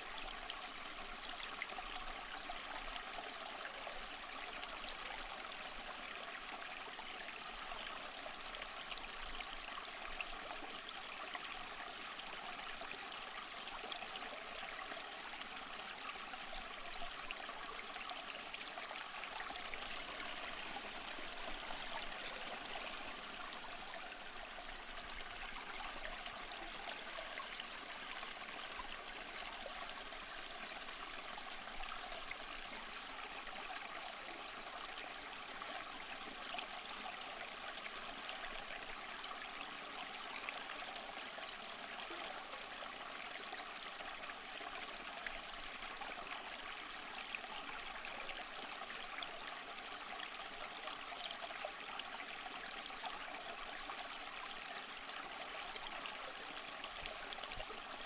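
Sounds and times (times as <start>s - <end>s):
stream running over stones: 0.0s - 58.0s.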